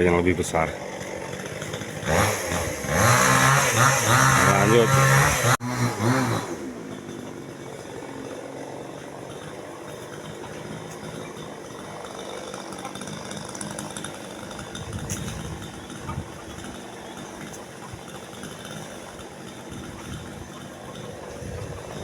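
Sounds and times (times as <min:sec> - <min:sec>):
chainsaw engine running: 0:00.0 - 0:22.0.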